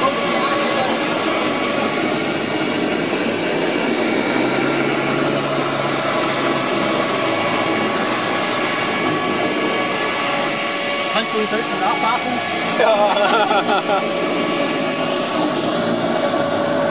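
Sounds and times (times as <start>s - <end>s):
turboprop engine drone with turbine whine: 0.0s - 16.9s.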